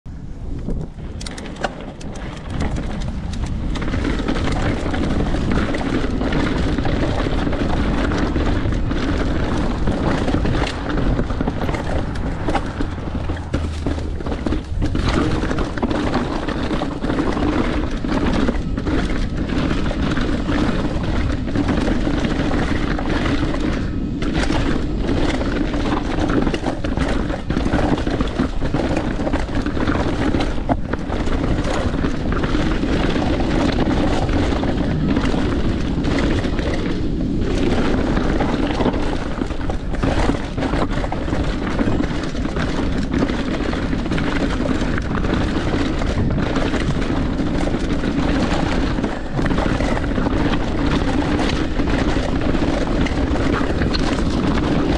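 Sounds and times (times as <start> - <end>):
bike rattling and knocking: 0.1 - 54.9
wind on microphone: 0.1 - 54.9
tyres rolling over rocks: 0.6 - 54.9.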